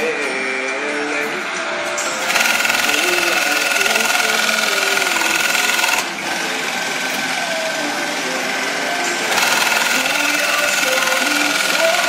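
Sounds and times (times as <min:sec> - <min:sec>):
high machine whine: 0:01.2 - 0:12.0
sewing machine running: 0:02.0 - 0:12.0.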